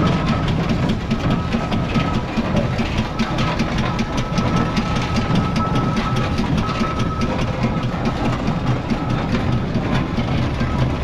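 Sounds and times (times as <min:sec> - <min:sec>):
steam engine clattering: 0:00.0 - 0:11.0.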